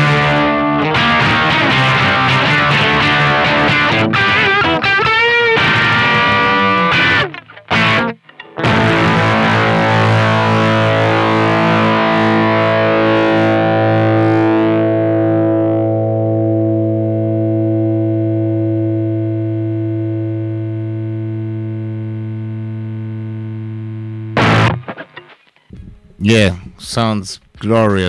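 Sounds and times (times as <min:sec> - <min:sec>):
fuzz electric guitar chord: 0:00.0 - 0:25.4.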